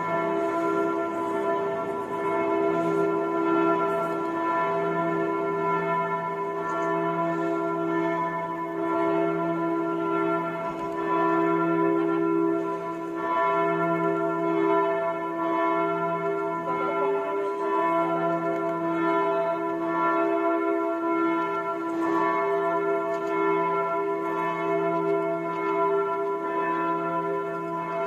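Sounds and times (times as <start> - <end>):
church bell tolling: 0.0 - 28.0.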